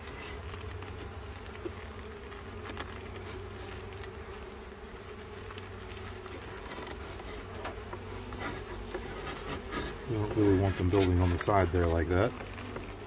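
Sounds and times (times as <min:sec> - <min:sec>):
bees buzzing: 0:00.0 - 0:13.0
light clicks and scrapes: 0:00.0 - 0:13.0.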